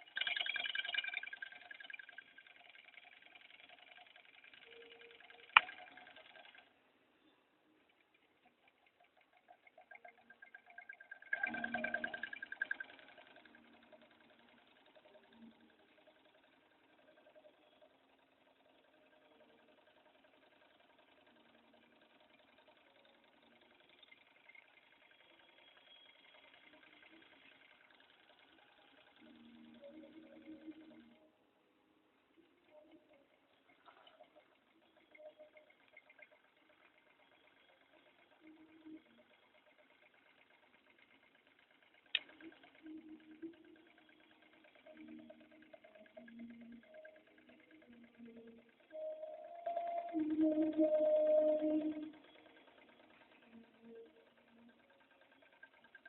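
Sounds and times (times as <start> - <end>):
model engine rattling: 0.0 - 6.8, 7.8 - 31.2, 32.3 - 56.0.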